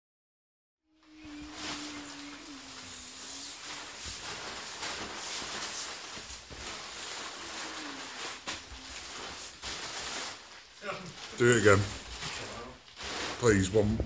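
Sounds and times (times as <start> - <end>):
tent fabric rustling: 1.0 - 13.9.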